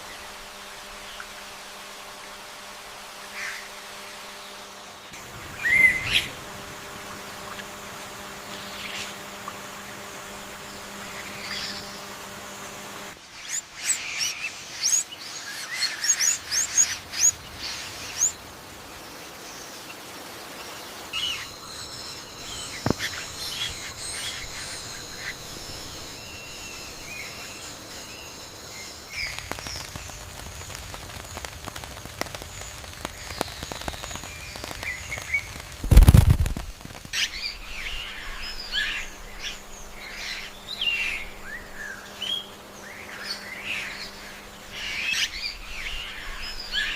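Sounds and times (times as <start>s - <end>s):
steady high whine: 0.0s - 14.8s, 15.6s - 46.9s
birds chirping: 5.0s - 46.9s.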